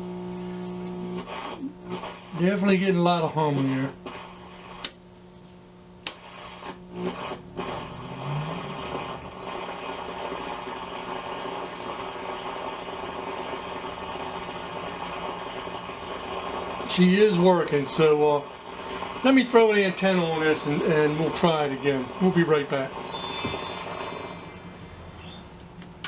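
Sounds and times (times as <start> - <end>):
radio speaker hum: 0.0 - 26.0
static hiss: 1.1 - 5.0, 6.0 - 25.7.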